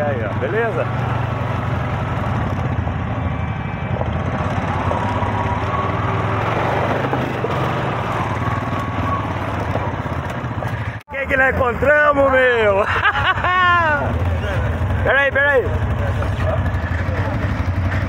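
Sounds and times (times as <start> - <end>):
quad bike engines running: 0.0 - 18.0
tyre and road noise: 0.0 - 18.0.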